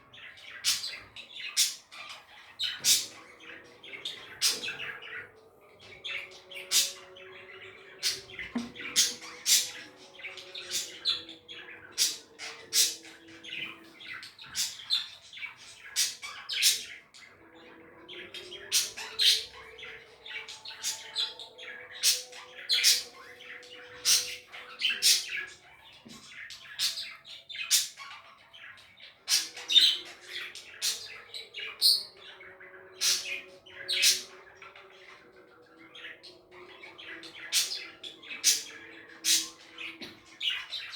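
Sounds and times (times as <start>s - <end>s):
budgerigars chirping: 0.1s - 17.3s, 18.0s - 40.9s.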